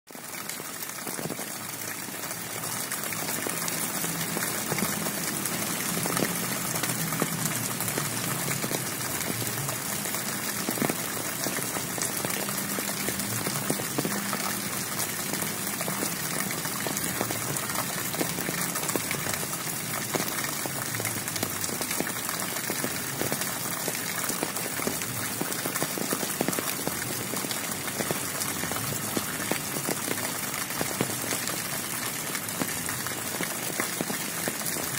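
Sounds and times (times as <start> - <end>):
heavy rain: 0.1 - 34.9.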